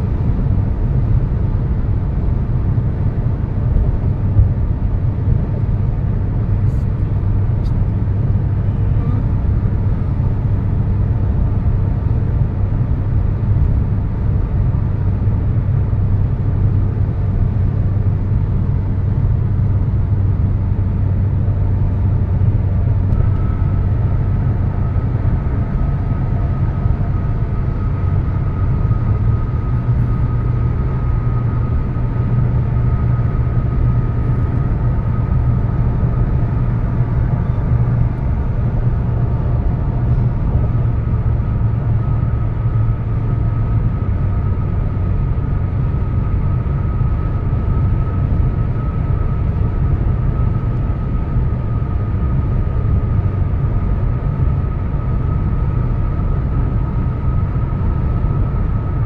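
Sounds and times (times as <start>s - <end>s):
faint steady whine: 0.0s - 59.0s
vehicle road noise from cabin: 0.0s - 59.0s.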